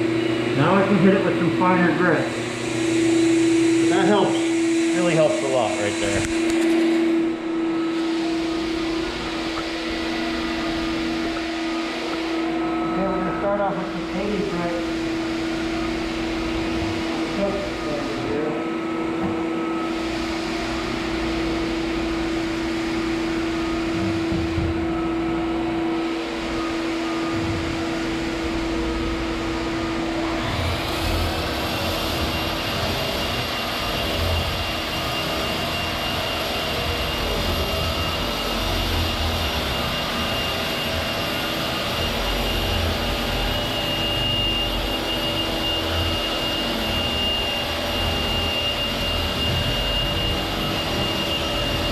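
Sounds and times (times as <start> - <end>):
power sander on wooden floor: 0.0 - 51.9.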